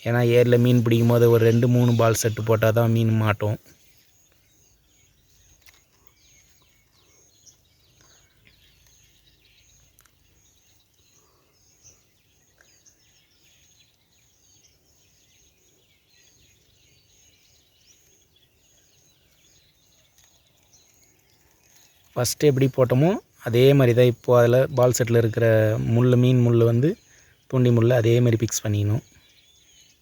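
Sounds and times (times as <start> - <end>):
small bird chirps: 0.0 - 30.0.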